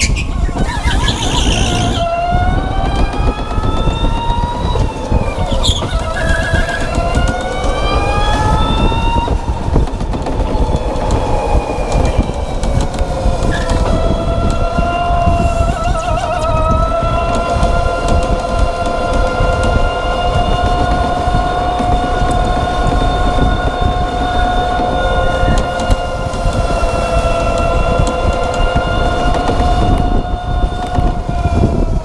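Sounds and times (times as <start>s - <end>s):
electric motor whining: 0.0s - 32.0s
kart rumbling and rattling: 0.0s - 32.0s.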